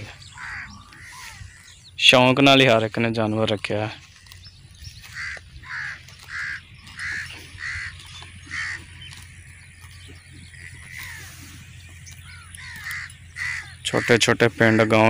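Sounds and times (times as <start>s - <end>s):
bird calling harshly: 0.0s - 2.0s, 4.1s - 15.0s.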